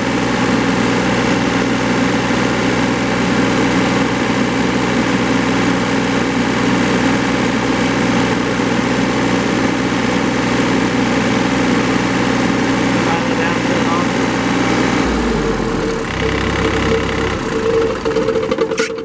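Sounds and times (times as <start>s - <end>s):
diesel mower engine running: 0.0s - 19.0s.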